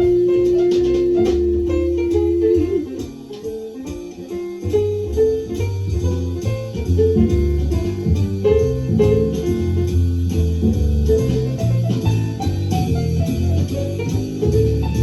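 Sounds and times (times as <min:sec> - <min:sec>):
low bass notes: 0:00.0 - 0:03.6, 0:04.6 - 0:15.0
guitar notes: 0:00.0 - 0:15.0.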